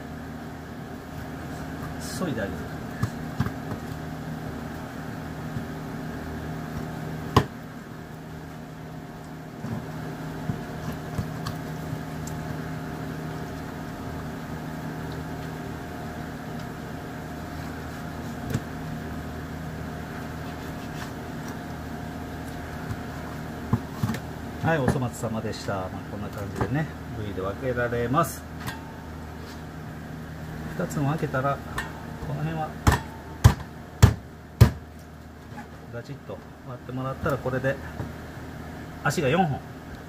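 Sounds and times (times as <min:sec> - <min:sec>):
kitchen equipment humming: 0:00.0 - 0:40.0.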